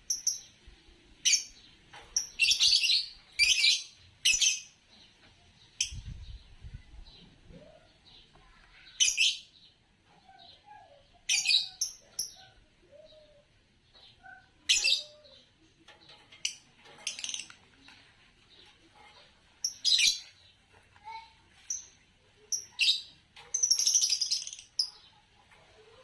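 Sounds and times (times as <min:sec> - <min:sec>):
lovebirds chirping: 0:00.0 - 0:26.0.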